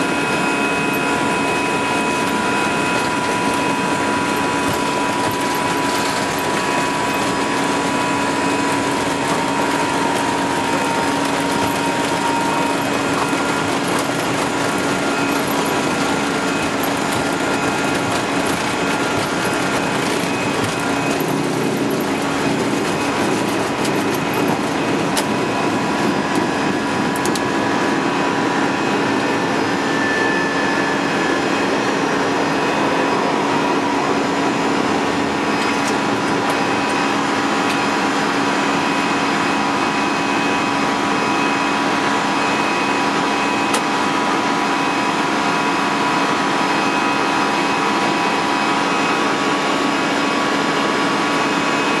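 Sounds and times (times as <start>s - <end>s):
engine and airflow rush: 0.0s - 52.0s.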